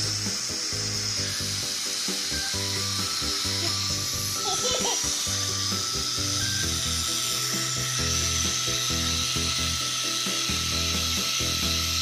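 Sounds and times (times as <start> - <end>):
background music with low notes: 0.0 - 12.0
vacuum cleaner running: 0.0 - 12.0.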